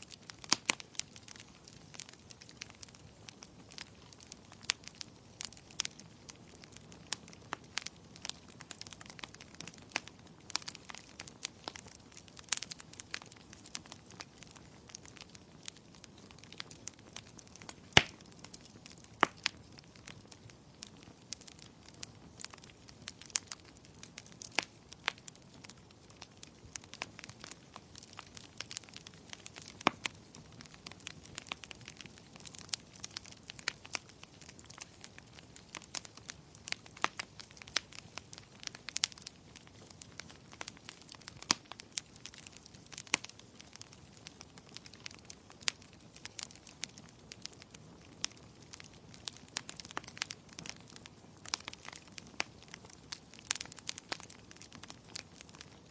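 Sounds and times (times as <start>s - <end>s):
faint steady hiss: 0.0s - 55.9s
wood fire crackling and popping: 0.0s - 55.9s.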